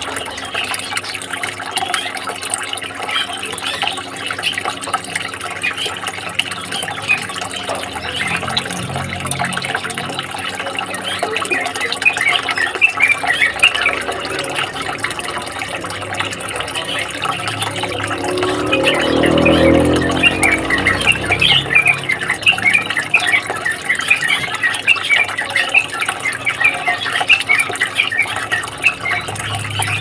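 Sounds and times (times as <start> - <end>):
running water: 0.0 - 30.0
songbirds chirping: 0.0 - 30.0.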